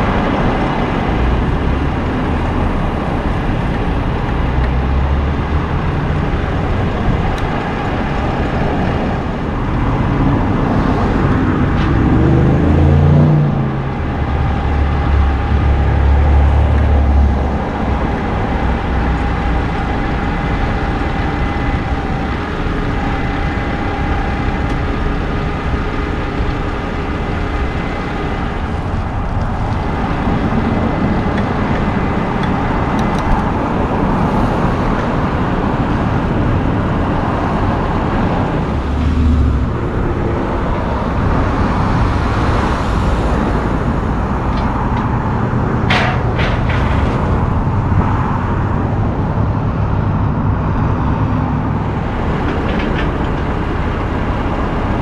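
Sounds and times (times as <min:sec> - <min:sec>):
engine revving with rising pitch: 0:00.0 - 0:45.7
road traffic: 0:00.0 - 0:55.0.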